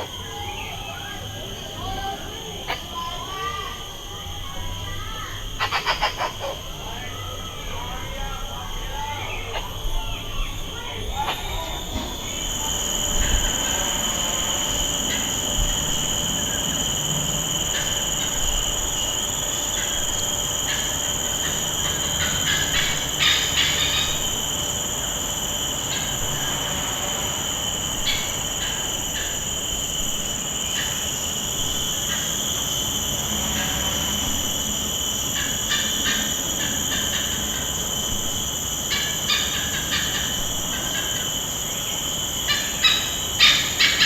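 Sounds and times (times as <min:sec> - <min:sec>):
cicadas shrilling: 0:00.0 - 0:44.0.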